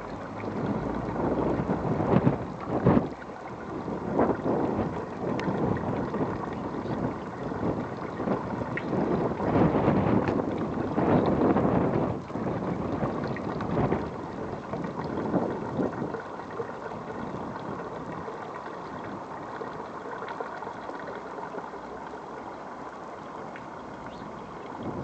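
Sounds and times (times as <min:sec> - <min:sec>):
strong wind on microphone: 0:00.0 - 0:19.9, 0:24.0 - 0:25.0.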